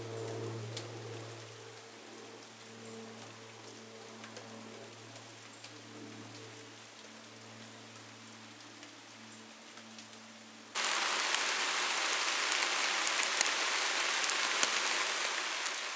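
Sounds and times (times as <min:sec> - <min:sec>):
rain falling: 0:00.1 - 0:15.9.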